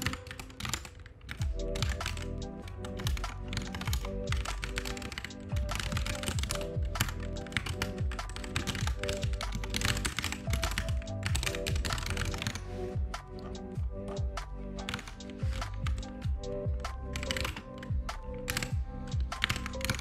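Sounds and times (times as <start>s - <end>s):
computer keyboard typing: 0.0s - 20.0s
lo-fi music with steady beat: 0.0s - 20.0s.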